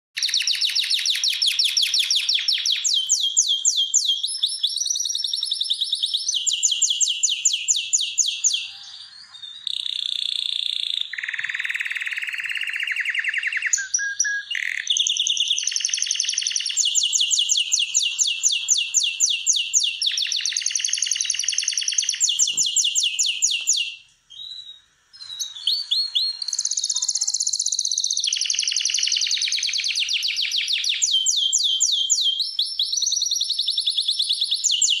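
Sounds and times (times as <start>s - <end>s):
canary singing trills: 0.2s - 35.0s.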